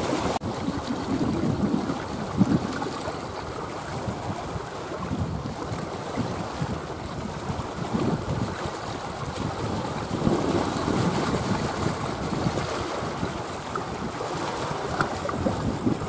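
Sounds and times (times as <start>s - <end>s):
sea waves lapping: 0.0s - 16.0s
wind gusting on microphone: 0.0s - 16.0s.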